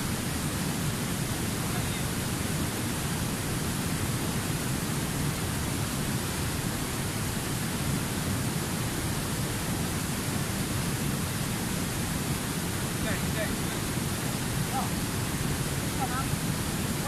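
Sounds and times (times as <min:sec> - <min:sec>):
river rapids over rocks: 0:00.0 - 0:17.0.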